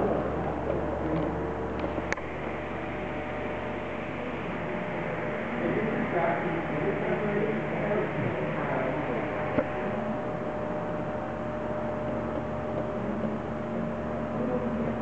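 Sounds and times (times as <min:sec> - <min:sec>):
indistinct chatter of people: 0:00.0 - 0:15.0
machinery hum: 0:00.0 - 0:15.0.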